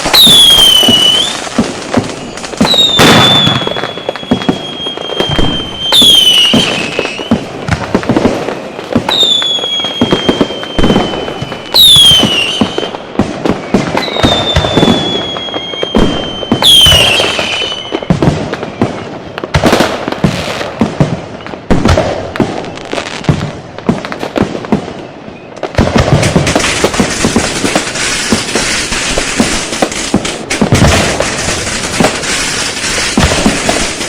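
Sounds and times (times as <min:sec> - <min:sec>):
firecrackers banging and crackling: 0:00.0 - 0:34.0
whistling fireworks: 0:00.0 - 0:34.0.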